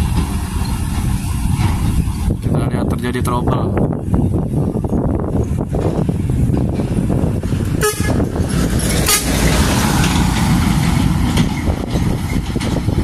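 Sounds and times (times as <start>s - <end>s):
truck engine running under load: 0.0s - 2.5s, 4.2s - 13.0s.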